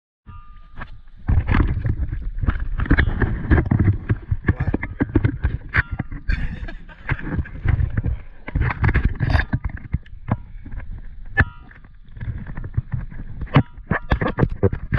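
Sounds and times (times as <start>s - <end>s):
low underwater rumble: 0.6s - 13.9s
irregular underwater clicks and knocks: 0.8s - 6.3s, 7.1s - 14.9s.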